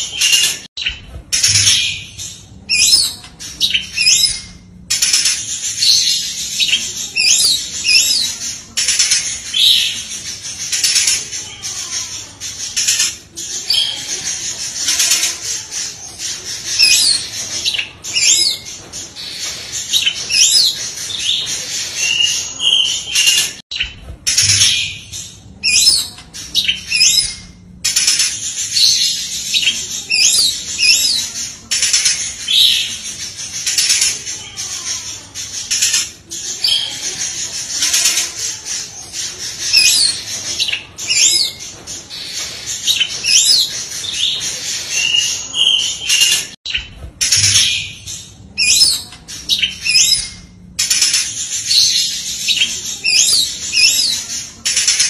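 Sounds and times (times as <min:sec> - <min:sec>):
songbird whistling and chattering: 0:00.0 - 0:11.8, 0:12.6 - 0:34.3, 0:35.6 - 0:55.0.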